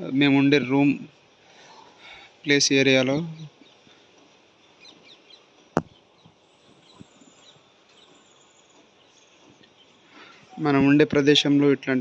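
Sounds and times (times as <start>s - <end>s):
faint outdoor ambience: 0.0s - 12.0s
faint bird chirps: 0.2s - 11.6s.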